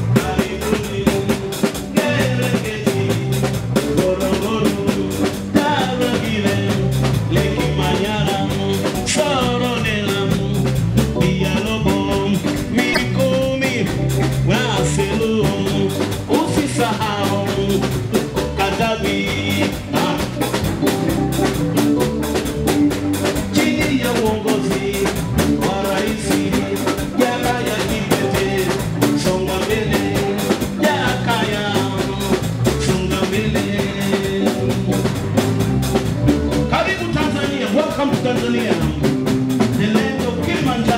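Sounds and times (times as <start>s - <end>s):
drum kit beat: 0.0s - 40.9s
electric bass: 0.0s - 40.9s.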